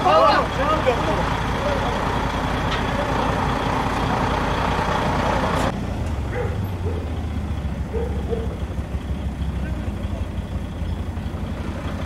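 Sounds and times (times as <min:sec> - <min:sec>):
loud steady engine noise: 0:00.0 - 0:12.0
low engine hum: 0:00.0 - 0:12.0.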